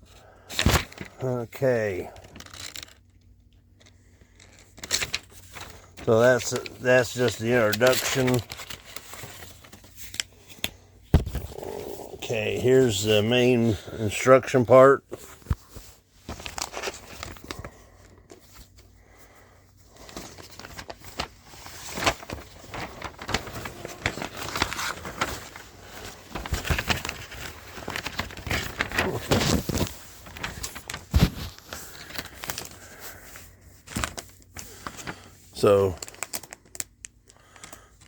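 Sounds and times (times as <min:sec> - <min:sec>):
paper pages rustling: 0:00.5 - 0:38.0.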